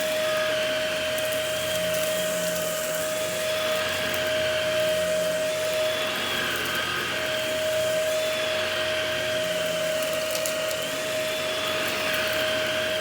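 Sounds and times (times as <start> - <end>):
vacuum cleaner running on carpet: 0.0 - 13.0.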